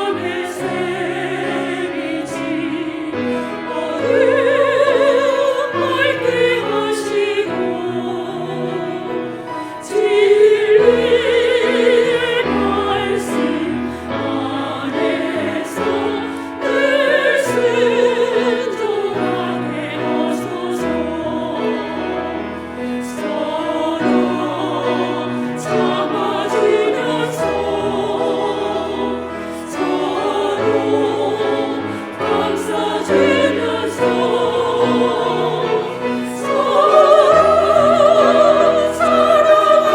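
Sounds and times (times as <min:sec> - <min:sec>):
women singing a hymn: 0:00.0 - 0:39.9.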